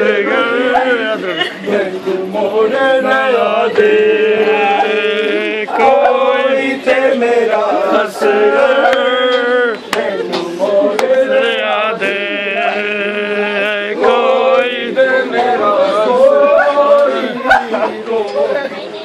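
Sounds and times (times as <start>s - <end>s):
men chanting a lament: 0.0s - 18.8s.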